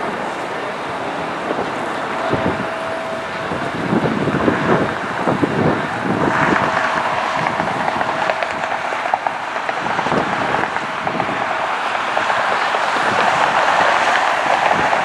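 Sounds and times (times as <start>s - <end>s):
faint steady whine: 0.0s - 15.0s
jet engines roaring: 0.0s - 15.0s
wind on microphone: 0.0s - 15.0s.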